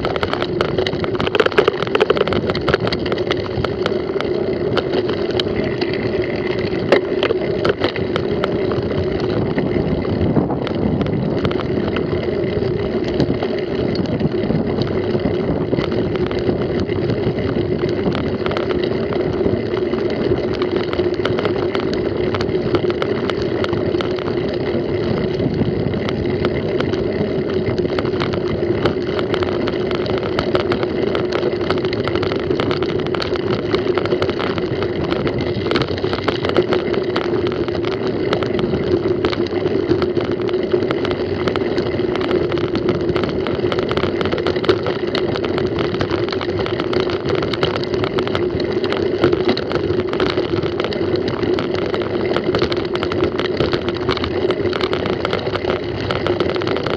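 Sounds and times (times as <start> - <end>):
bike rattles and knocks: 0.0 - 56.9
wind rushing over microphone: 0.0 - 56.9.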